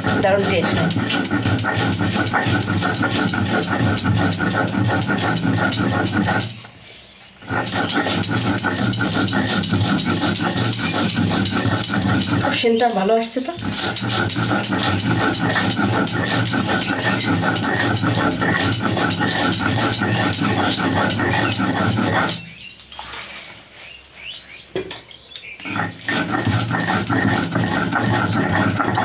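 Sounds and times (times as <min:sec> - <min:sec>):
stone roller grinding on stone slab: 0:00.0 - 0:23.2, 0:24.6 - 0:29.0.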